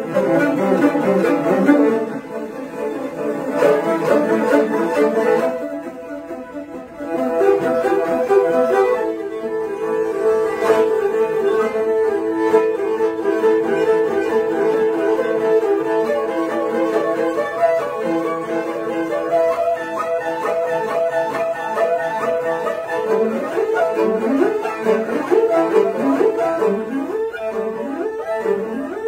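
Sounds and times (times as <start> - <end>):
bowed fiddle duet: 0.0 - 29.0.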